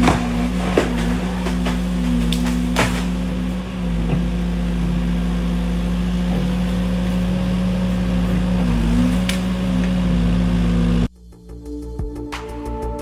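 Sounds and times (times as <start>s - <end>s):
excavator diesel engine running: 0.0s - 11.1s.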